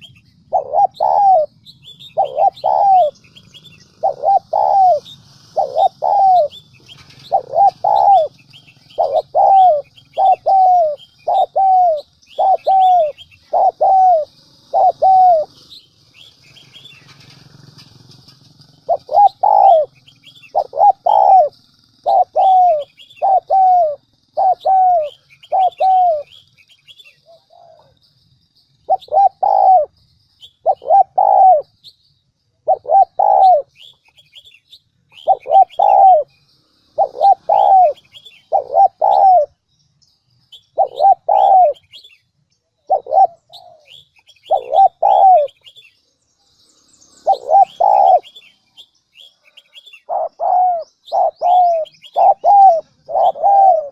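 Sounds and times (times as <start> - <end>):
dove cooing: 0.0 - 28.0, 28.8 - 30.0, 30.6 - 31.8, 32.6 - 34.4, 35.1 - 36.3, 36.9 - 39.6, 40.6 - 42.1, 42.8 - 45.8, 47.2 - 48.5, 49.3 - 53.9
faint high bird chirps: 0.0 - 53.9.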